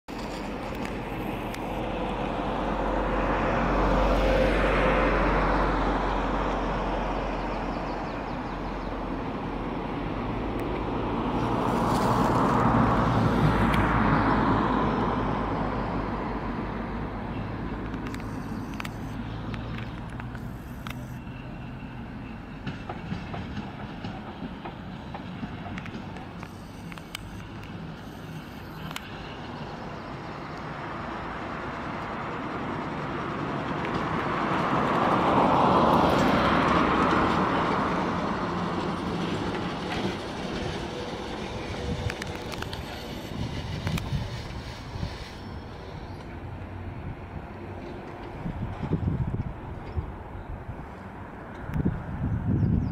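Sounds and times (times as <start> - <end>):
tram wheels rolling on rails: 0.1 - 52.2
tram rumble: 0.1 - 52.9.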